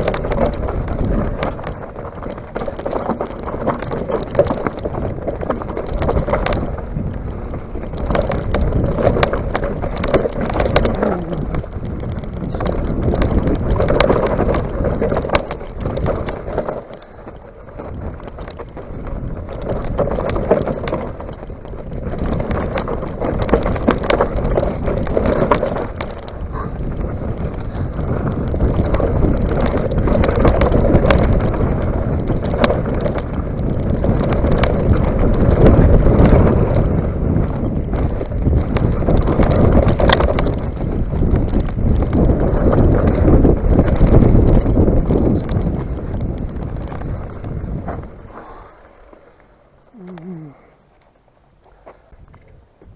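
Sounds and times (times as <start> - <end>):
bike knocks and rattles: 0.0 - 52.9
tyres crunching over gravel: 0.0 - 52.9
wind noise on microphone: 0.0 - 52.9.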